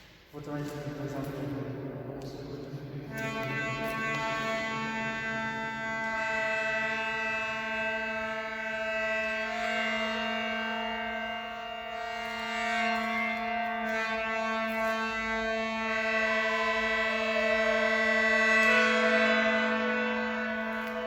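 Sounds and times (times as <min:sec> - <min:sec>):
sustained musical drone: 0:00.4 - 0:21.0.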